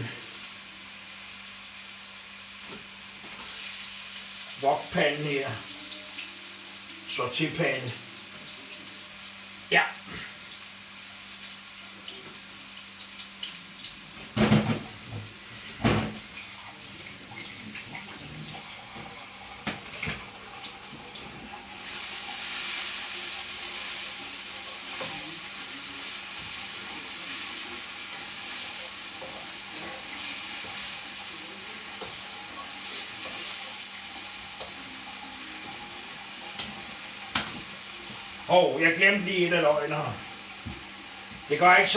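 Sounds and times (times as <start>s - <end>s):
onion and garlic sizzling: 0.0s - 41.9s.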